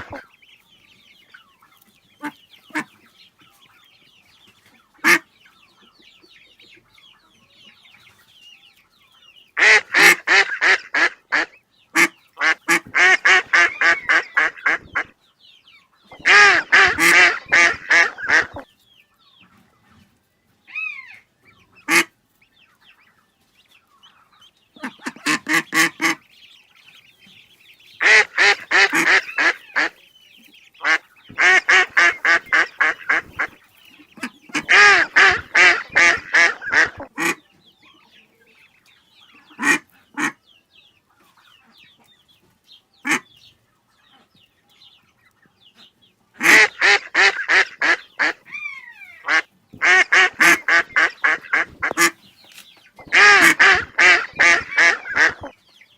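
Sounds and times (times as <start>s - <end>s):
ducks quacking: 0.0s - 8.1s, 9.5s - 18.7s, 20.7s - 23.2s, 23.8s - 44.5s, 45.1s - 55.9s.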